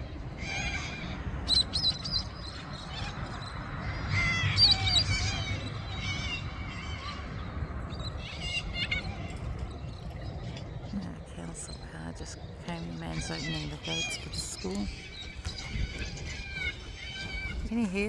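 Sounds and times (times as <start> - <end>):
flock of birds calling: 0.0 - 18.0.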